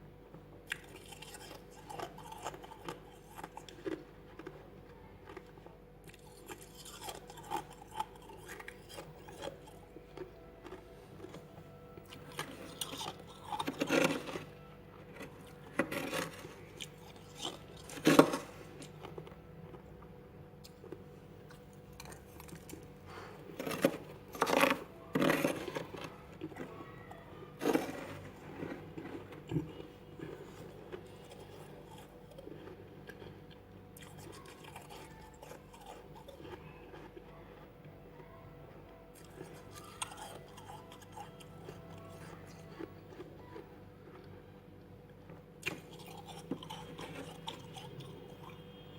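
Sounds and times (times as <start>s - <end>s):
chewing: 0.6s - 14.5s, 15.1s - 38.4s, 39.1s - 48.9s.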